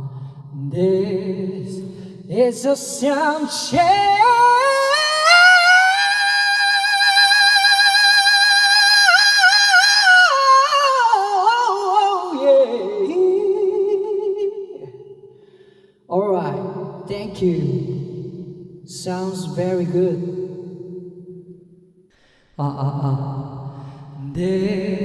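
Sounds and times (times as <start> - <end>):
person singing a cappella: 0.0 - 15.1, 16.1 - 20.8, 22.6 - 25.0.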